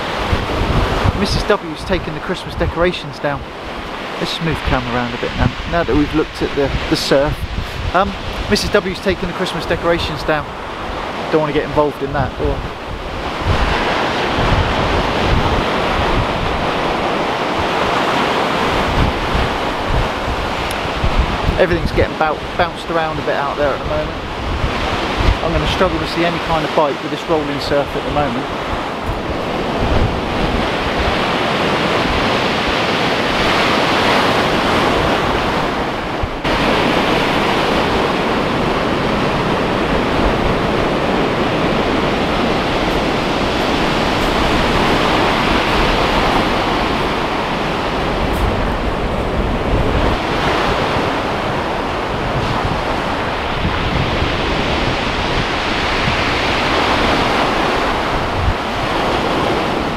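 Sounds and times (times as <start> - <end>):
waves breaking on shingle beach: 0.0 - 59.9.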